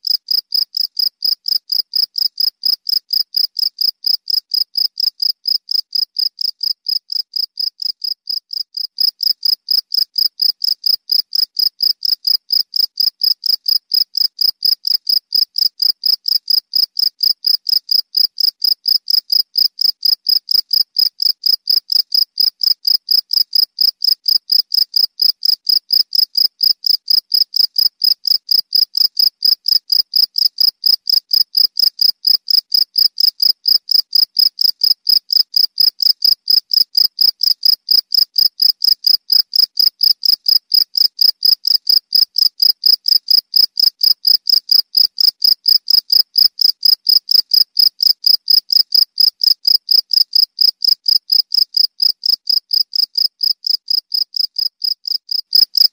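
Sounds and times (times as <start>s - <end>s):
cricket chirping: 0.1s - 55.9s.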